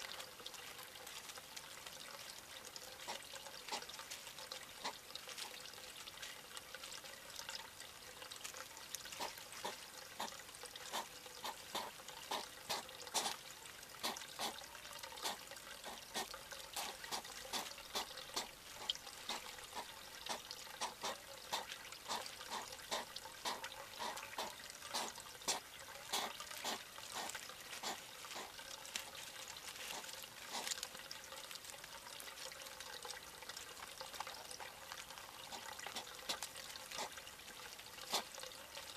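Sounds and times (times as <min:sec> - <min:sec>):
hedgehogs crunching dry food: 0:00.1 - 0:06.7, 0:08.3 - 0:13.4, 0:14.0 - 0:14.6, 0:15.2 - 0:31.0, 0:34.1 - 0:37.2, 0:38.1 - 0:38.4.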